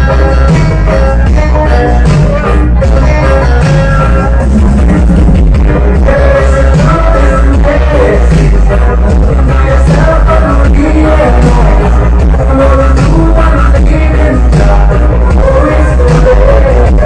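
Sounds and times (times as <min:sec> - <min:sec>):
heavy bass line: 0:00.0 - 0:17.0
loud music with singing: 0:00.0 - 0:17.0.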